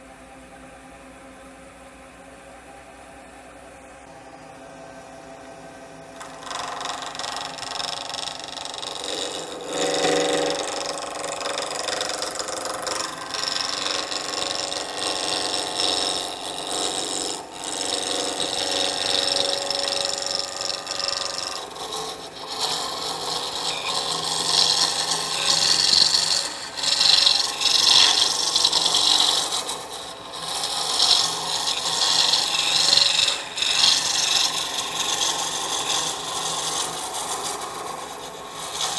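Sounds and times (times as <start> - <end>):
gouge scraping on wood lathe: 6.2 - 38.9.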